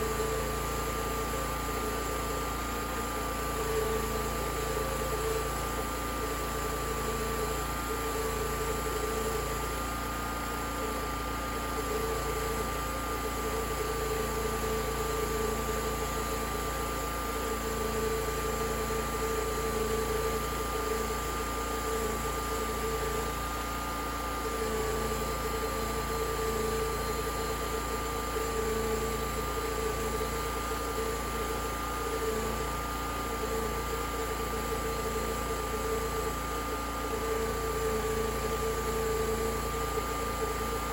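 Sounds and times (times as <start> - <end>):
sawmill running: 0.0 - 40.9.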